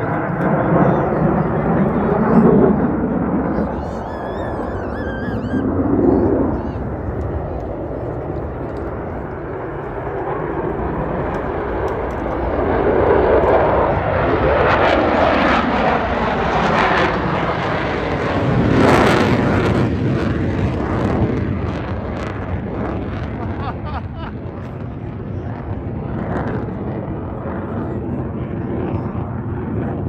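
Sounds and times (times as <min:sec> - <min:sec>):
fighter jets flying past: 0:00.0 - 0:30.0.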